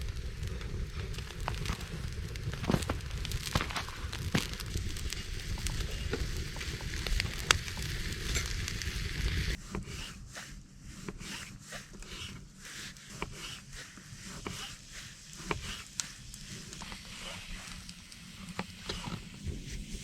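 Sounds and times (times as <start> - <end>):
fire crackling and popping: 0.0 - 9.6, 11.2 - 20.0.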